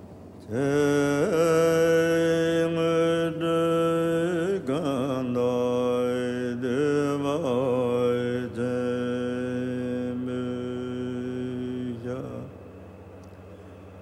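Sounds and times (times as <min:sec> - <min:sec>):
person chanting a mantra: 0:00.4 - 0:12.7.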